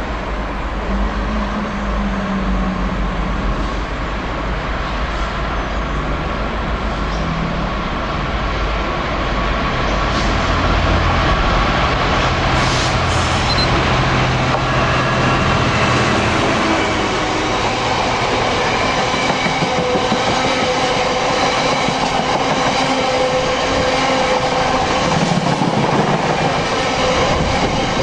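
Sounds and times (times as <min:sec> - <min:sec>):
diesel locomotive engine running: 0:00.0 - 0:28.0.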